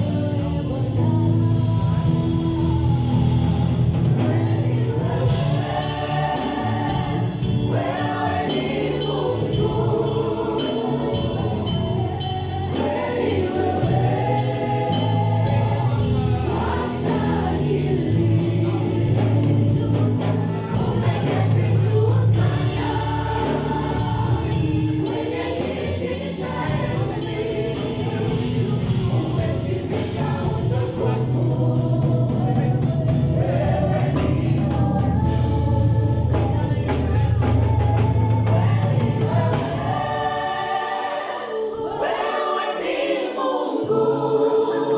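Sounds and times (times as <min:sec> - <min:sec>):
live band: 0:00.0 - 0:40.2
held bass notes: 0:00.0 - 0:40.6
light percussion: 0:00.0 - 0:40.6
gospel choir singing: 0:00.0 - 0:44.9.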